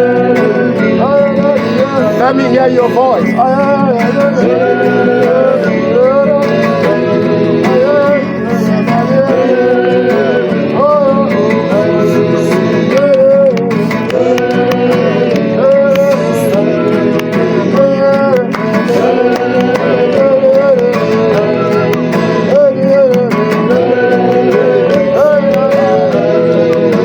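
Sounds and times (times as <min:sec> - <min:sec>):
instruments accompanying: 0:00.0 - 0:27.0
light percussion: 0:00.0 - 0:27.0
person singing worship song: 0:00.0 - 0:27.0.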